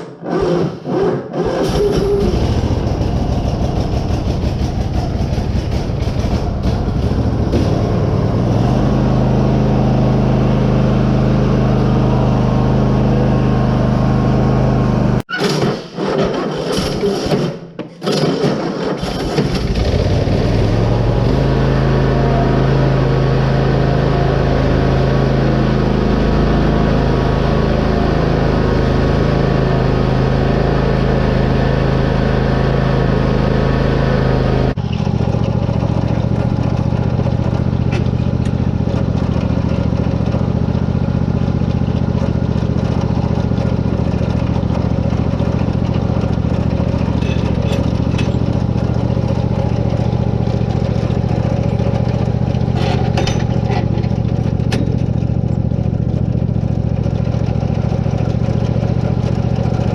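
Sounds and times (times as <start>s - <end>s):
riding lawn mower engine: 1.4s - 59.9s.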